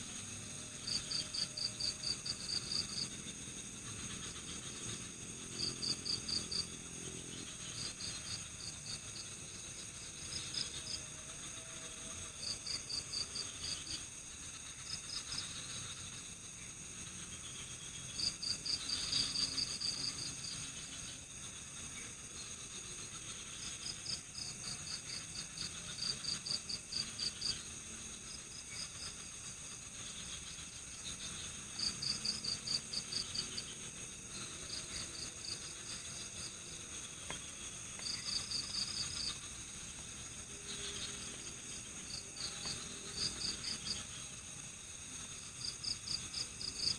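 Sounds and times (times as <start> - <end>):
cricket chirping: 0.0 - 46.9
insects droning: 0.0 - 46.9.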